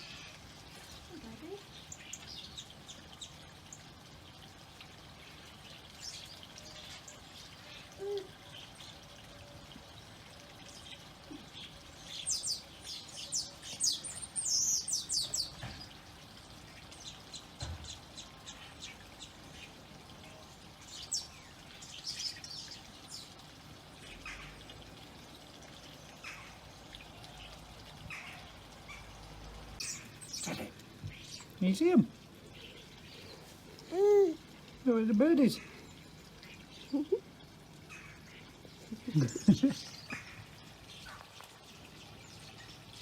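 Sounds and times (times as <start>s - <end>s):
garden birds chirping: 0.0s - 43.0s.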